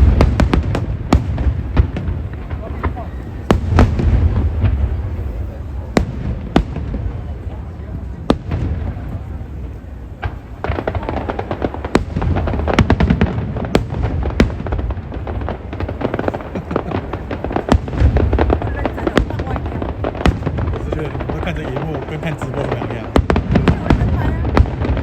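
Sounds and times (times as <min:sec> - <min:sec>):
fireworks bangs: 0:00.0 - 0:25.0
fireworks crackling: 0:00.0 - 0:25.0
fireworks low rumble: 0:00.0 - 0:25.0.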